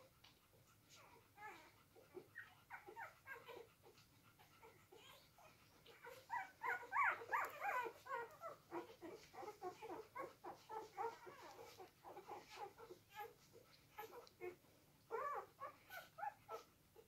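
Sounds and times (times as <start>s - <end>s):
puppies squeaking and whimpering: 0.9s - 16.7s.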